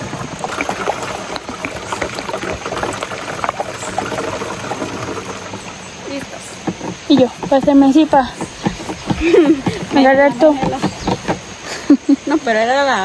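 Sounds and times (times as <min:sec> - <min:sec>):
water splashing and gurgling: 0:00.0 - 0:12.2.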